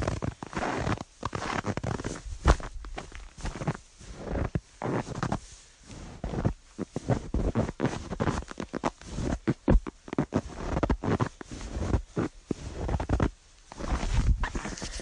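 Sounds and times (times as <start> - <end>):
footsteps crunching on snow: 0.0 - 14.9.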